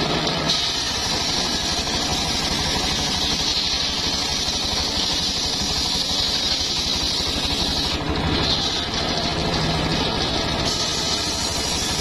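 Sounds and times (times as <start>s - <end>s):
engine running: 0.0s - 12.0s
high-pitched saw noise: 0.0s - 12.0s.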